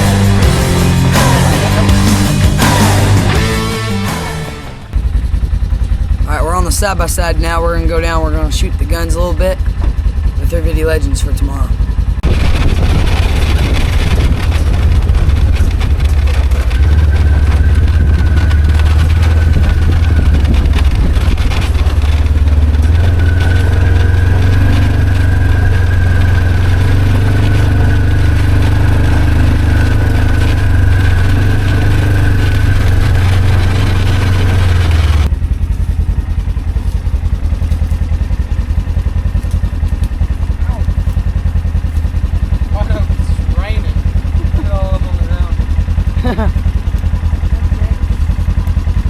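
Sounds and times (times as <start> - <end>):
steady whine: 0.0 - 49.0
utility vehicle engine drone: 0.0 - 49.0.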